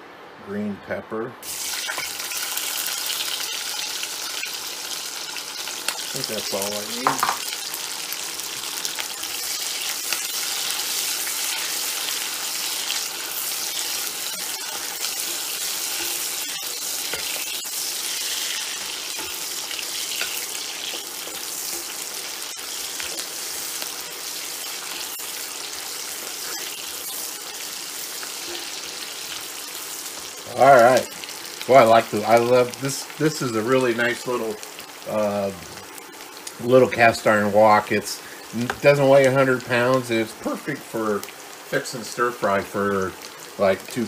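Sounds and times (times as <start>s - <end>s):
peppers sizzling in oil: 1.4s - 44.0s.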